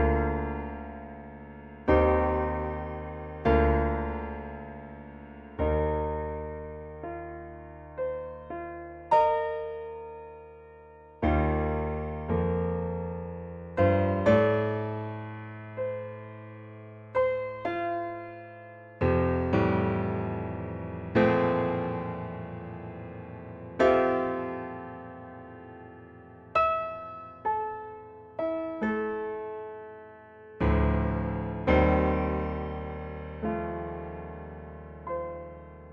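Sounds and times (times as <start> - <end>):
slow piano music: 0.0 - 35.9.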